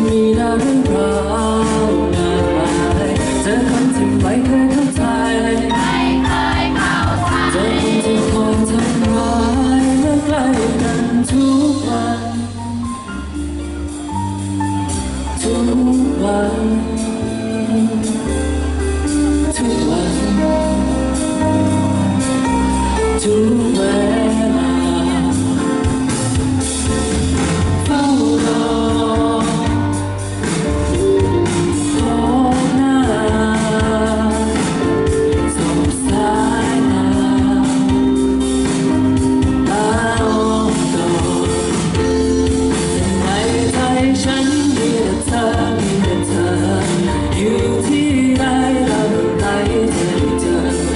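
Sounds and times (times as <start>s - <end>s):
person singing into microphone: 0.0s - 13.4s, 15.2s - 26.5s, 27.8s - 50.9s
band with heavy bass line: 0.0s - 50.9s.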